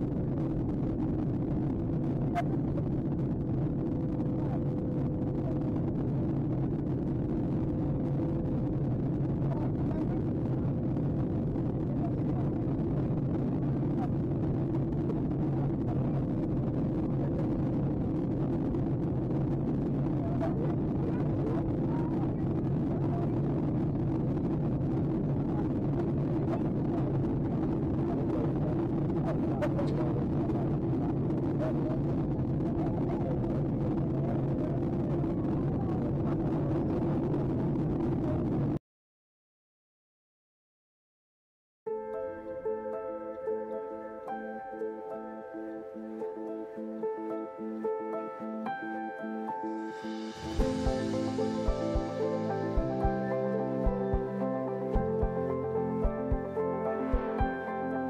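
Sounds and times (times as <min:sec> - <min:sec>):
airliner cabin drone: 0:00.0 - 0:38.8, 0:48.6 - 0:58.0.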